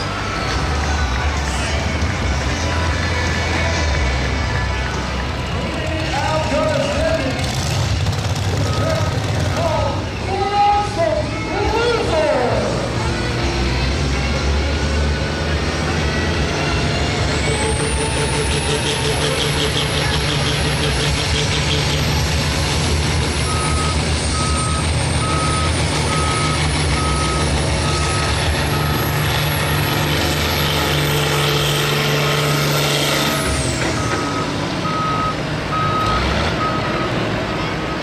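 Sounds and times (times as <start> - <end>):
tractor engine running hard: 0.0 - 38.0.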